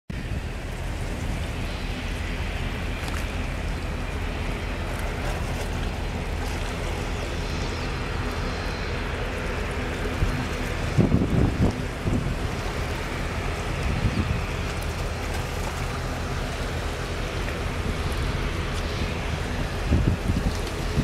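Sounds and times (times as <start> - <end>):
low hum: 0.1 - 21.0
wind: 0.1 - 21.0.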